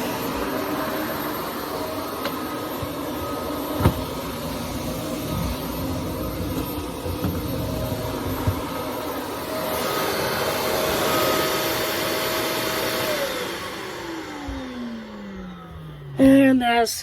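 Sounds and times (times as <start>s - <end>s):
vacuum cleaner motor whine: 0.0s - 16.6s
vacuum motor winding down: 0.0s - 16.6s.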